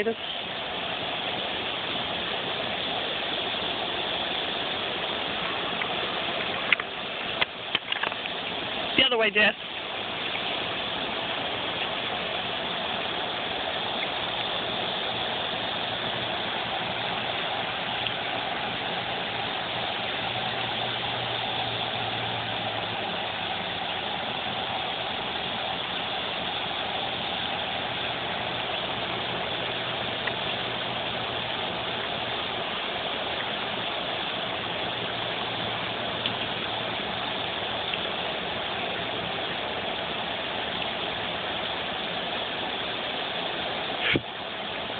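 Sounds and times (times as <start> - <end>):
cicada chorus drone: 0.0 - 44.9.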